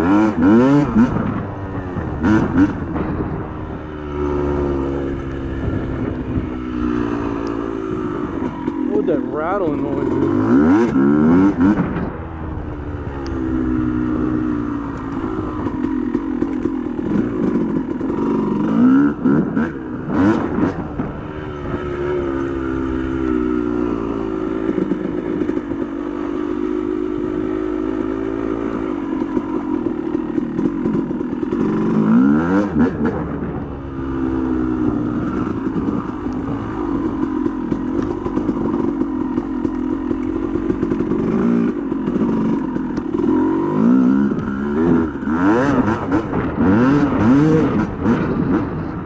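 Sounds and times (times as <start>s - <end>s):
dirt bike engine revving: 0.0s - 12.2s, 13.0s - 49.0s.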